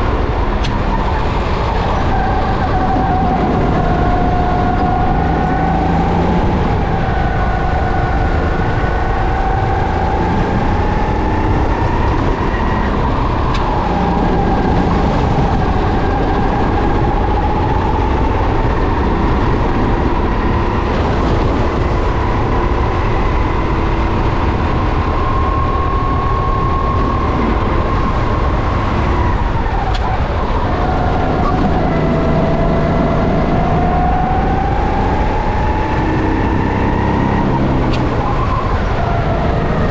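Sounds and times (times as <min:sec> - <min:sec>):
kart engine whining: 0:00.0 - 0:39.9
wind rumble: 0:00.0 - 0:39.9.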